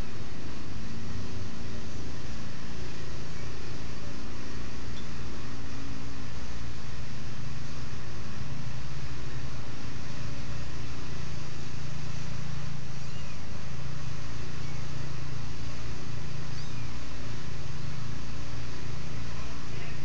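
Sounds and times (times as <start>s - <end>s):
low droning hum: 0.0s - 20.0s.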